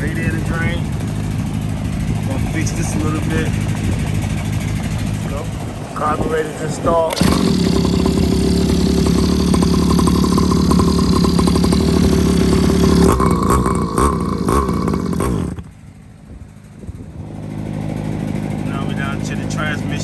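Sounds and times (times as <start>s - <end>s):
dirt bike engine revving: 0.0s - 15.8s, 17.2s - 20.0s.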